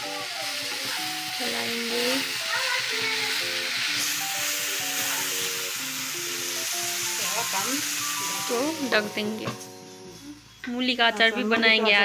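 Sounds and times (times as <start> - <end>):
beans sizzling in a wok: 0.0 - 10.9
background music with simple melody: 0.0 - 12.0.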